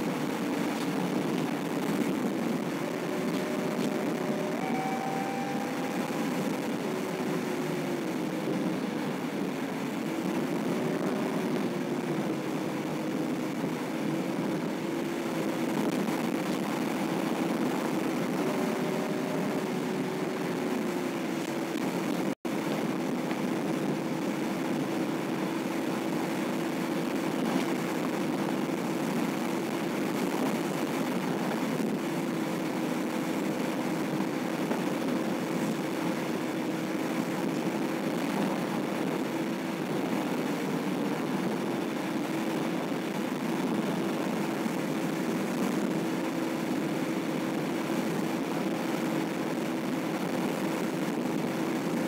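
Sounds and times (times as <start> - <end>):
car engine drone: 0.0 - 52.0
road and tyre noise: 0.0 - 52.0.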